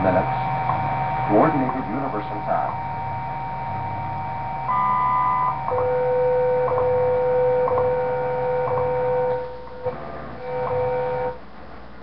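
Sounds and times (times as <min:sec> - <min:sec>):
radio whistling tones: 0:00.0 - 0:11.4
low radio hum: 0:00.0 - 0:12.0.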